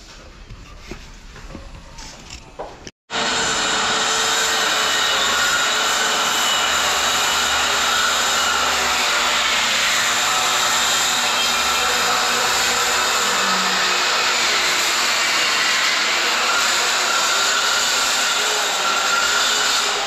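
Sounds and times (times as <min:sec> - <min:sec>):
power tool motor whirring: 0:03.2 - 0:20.0.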